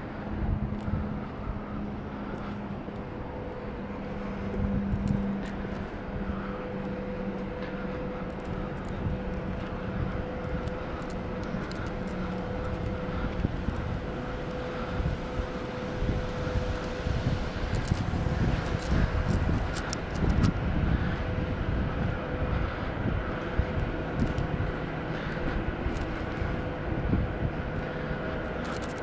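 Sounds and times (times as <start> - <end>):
higher steady hum: 0.0 - 29.0
low engine drone: 0.0 - 29.0.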